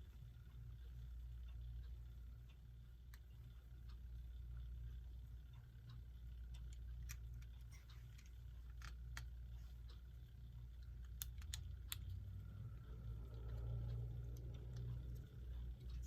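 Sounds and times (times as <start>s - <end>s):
low steady hum: 0.0s - 16.0s
small clicks of clock parts: 0.0s - 16.0s.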